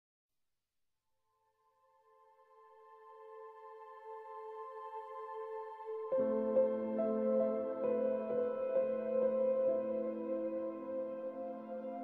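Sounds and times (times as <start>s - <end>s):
background music with held notes: 2.4s - 12.0s.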